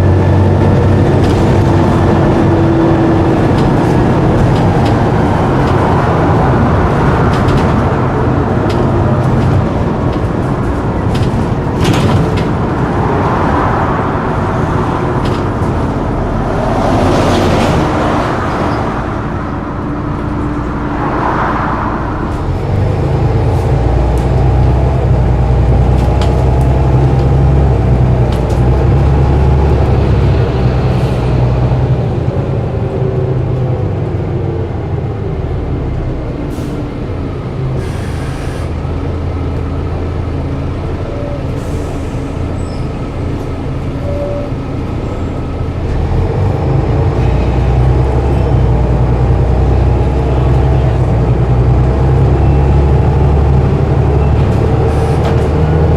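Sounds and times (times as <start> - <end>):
diesel bus engine under load: 0.0 - 55.9.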